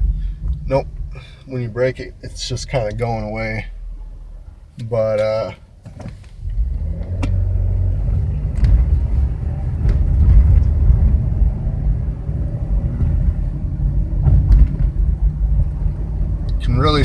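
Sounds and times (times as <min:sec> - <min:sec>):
low droning hum: 0:00.0 - 0:17.0
road rumble: 0:00.0 - 0:17.0.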